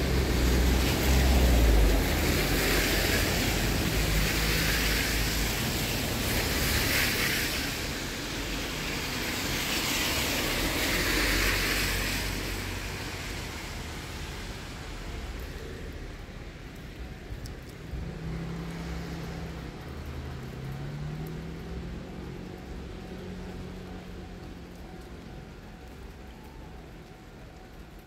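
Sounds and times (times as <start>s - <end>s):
tyres hissing on wet road: 0.0s - 28.0s.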